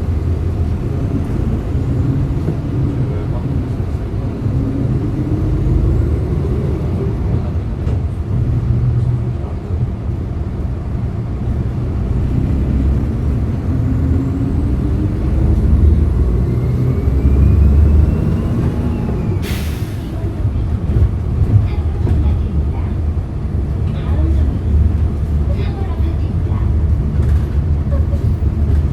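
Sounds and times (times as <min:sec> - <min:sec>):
bus engine drone: 0:00.0 - 0:28.9.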